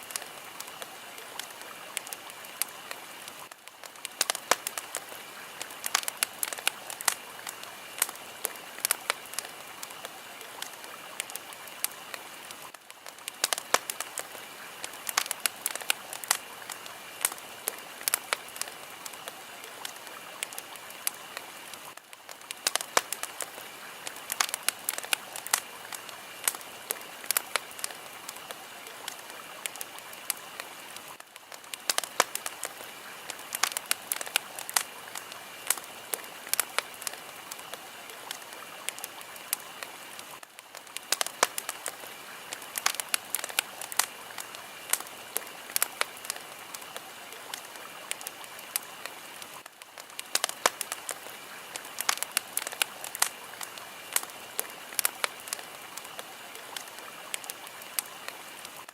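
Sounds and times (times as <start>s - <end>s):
fire crackling and popping: 0.0s - 58.9s.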